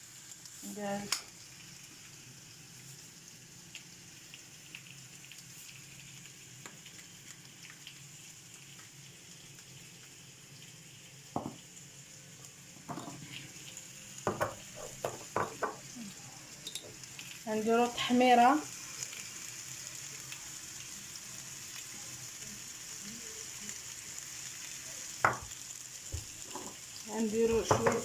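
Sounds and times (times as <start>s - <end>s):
oil sizzling under vegetables: 0.0s - 28.0s.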